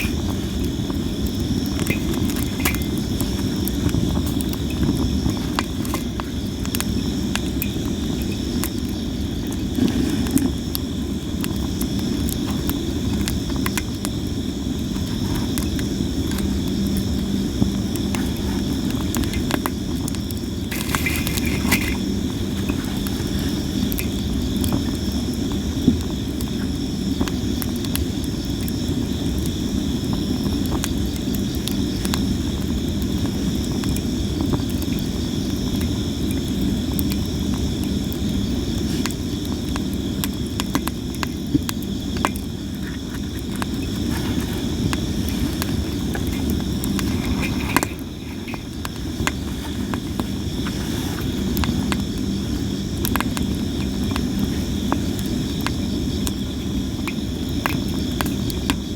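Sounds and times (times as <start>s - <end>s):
campfire crackling and popping: 0.0s - 58.9s
insects chirping: 0.0s - 58.9s
low rumble of flames: 0.0s - 58.9s.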